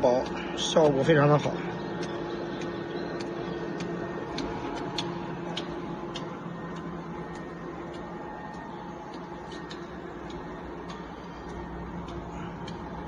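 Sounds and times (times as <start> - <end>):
light mechanical clicking: 0.0 - 13.0
machine mechanical hum: 0.0 - 13.0.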